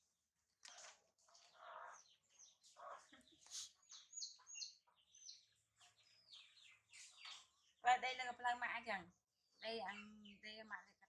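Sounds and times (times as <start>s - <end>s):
small birds chirping: 0.4s - 11.0s.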